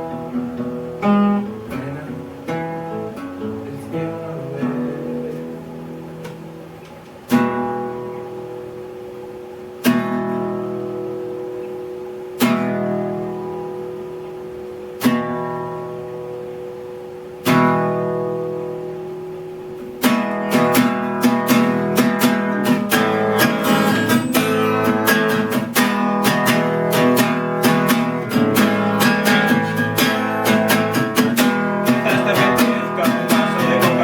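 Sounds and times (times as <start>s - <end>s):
acoustic guitar chord ringing: 0.0s - 34.0s
rhythmic guitar strumming: 0.0s - 34.0s.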